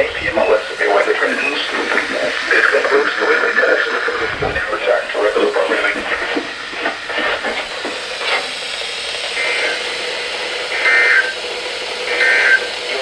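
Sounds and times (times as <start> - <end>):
radio voice: 0.0 - 8.5, 10.7 - 13.0
static hiss: 0.0 - 13.0.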